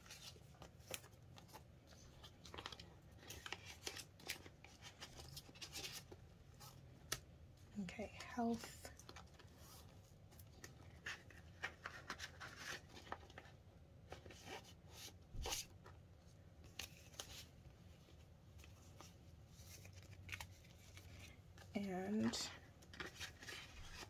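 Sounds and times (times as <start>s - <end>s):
banknotes rustling and crinkling: 0.0s - 24.0s.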